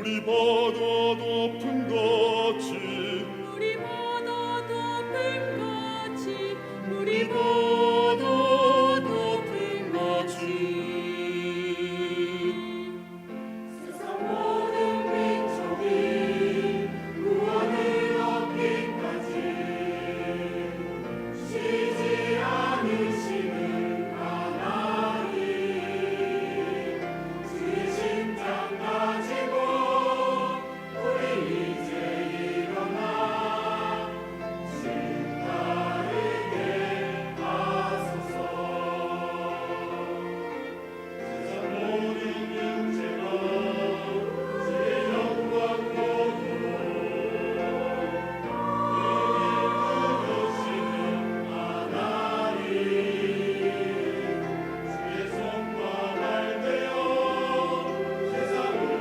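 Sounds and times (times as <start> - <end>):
church choir singing: 0.0 - 59.0.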